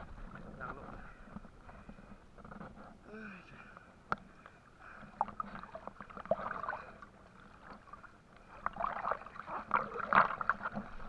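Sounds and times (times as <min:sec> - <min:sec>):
water sloshing and splashing: 0:00.0 - 0:03.0, 0:04.2 - 0:11.0.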